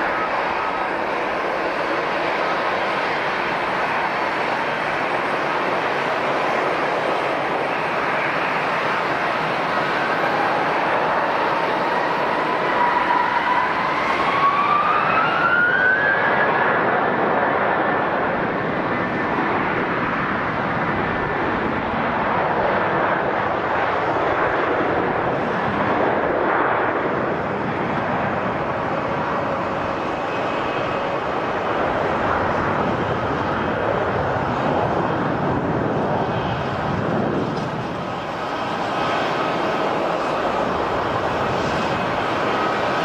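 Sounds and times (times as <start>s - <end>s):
jet airliner engines running: 0.0s - 43.0s.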